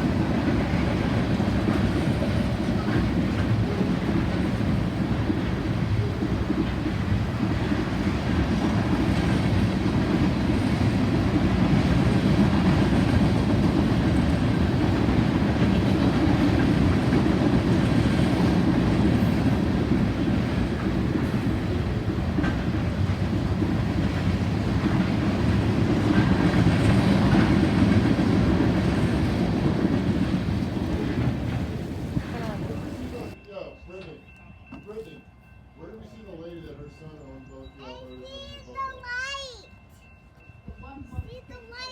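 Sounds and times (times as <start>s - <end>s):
train wheels rumbling on rails: 0.0s - 35.2s.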